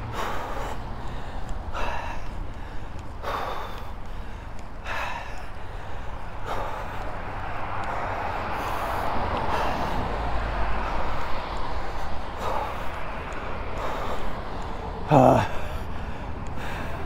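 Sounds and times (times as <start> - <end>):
person breathing hard: 0.0 - 17.0
steady rushing noise: 0.0 - 17.0.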